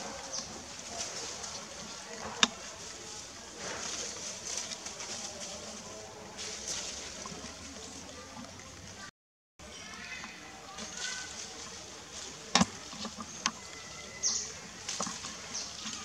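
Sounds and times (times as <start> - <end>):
soft rustles: 0.0 - 9.1, 10.2 - 16.0.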